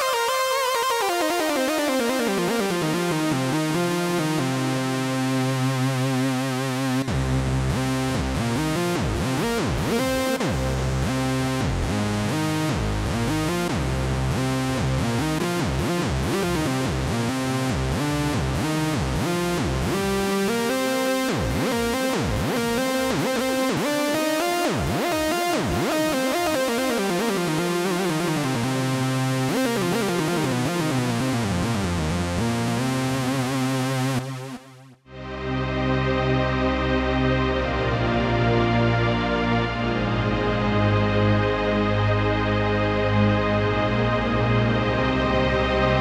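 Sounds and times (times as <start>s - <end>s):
synth bass line: 0.0s - 46.0s
synthesizer held chord: 0.0s - 46.0s
synthesizer plucked notes: 0.0s - 46.0s.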